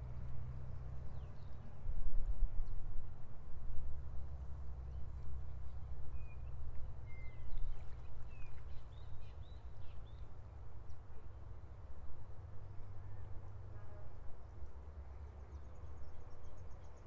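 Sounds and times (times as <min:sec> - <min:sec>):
wind rumble on microphone: 0:00.0 - 0:14.8.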